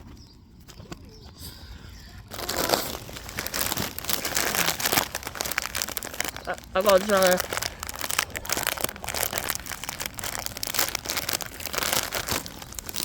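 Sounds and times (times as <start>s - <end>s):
plastic wrapper crinkling: 2.3s - 13.0s.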